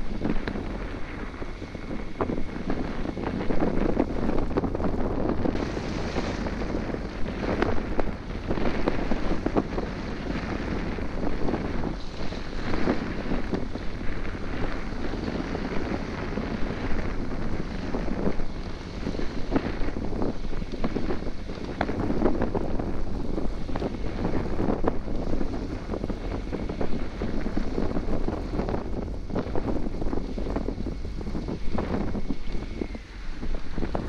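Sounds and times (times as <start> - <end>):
water washing along hull: 0.0 - 34.0
wind buffeting microphone: 0.0 - 34.0.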